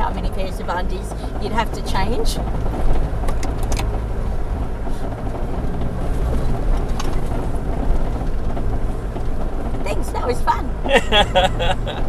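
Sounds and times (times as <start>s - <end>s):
vehicle engine and road drone: 0.0s - 12.0s.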